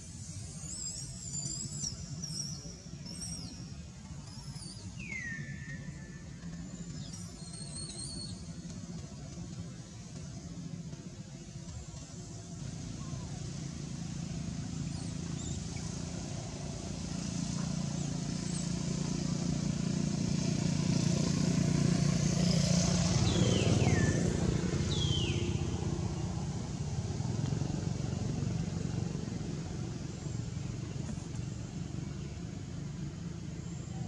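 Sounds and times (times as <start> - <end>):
vehicle engine rumble passing: 2.9 - 34.0.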